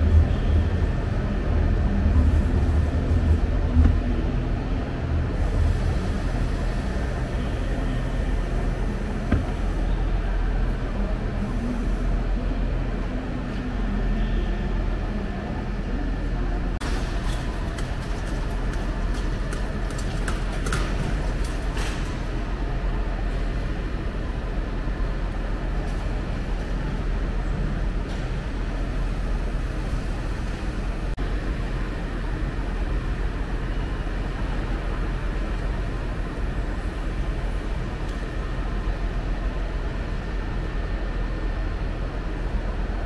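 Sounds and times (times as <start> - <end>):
train rumbling and hissing: 0.0 - 43.0.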